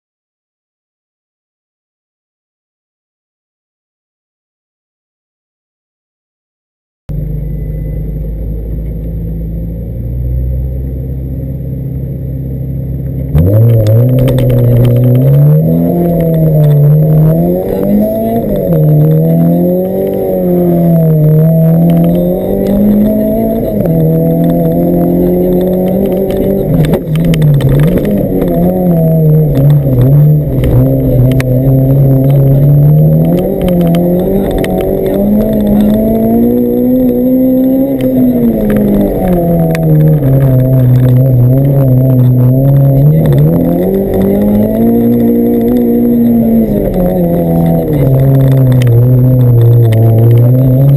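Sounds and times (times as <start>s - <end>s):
car engine revving: 7.1s - 50.9s.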